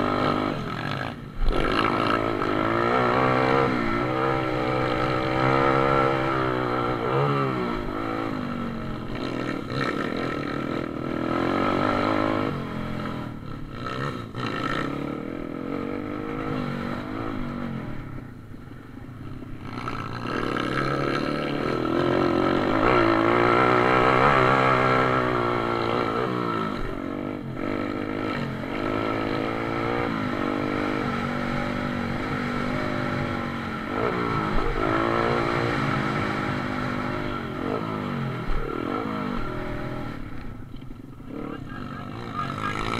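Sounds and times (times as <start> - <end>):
pit bike engines revving: 0.0 - 42.9.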